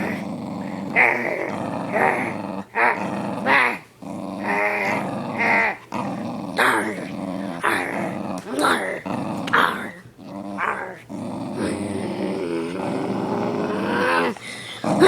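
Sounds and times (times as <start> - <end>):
dog growling: 0.0 - 15.0.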